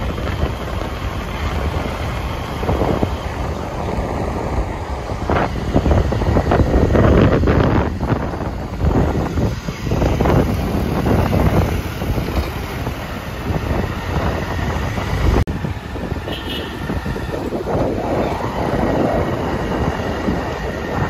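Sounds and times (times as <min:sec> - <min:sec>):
vehicle rumble: 0:00.0 - 0:21.0
wind buffeting microphone: 0:00.0 - 0:21.0.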